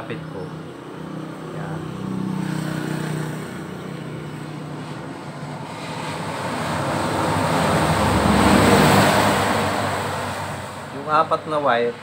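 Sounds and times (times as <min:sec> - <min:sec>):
passing engine hum: 0:00.0 - 0:12.0.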